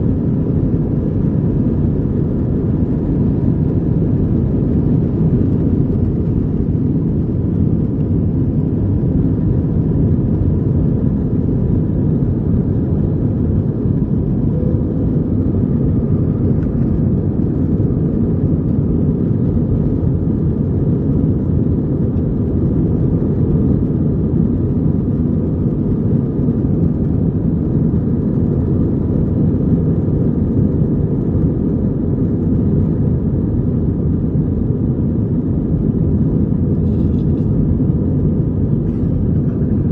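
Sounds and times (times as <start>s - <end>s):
aircraft cabin rumble: 0.0s - 39.9s
faint steady hum: 0.0s - 39.9s.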